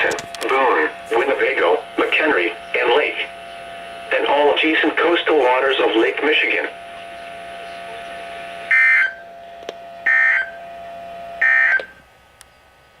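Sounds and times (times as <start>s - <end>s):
faint radio hum: 0.0s - 12.0s
warbling digital data tones: 0.6s - 12.0s.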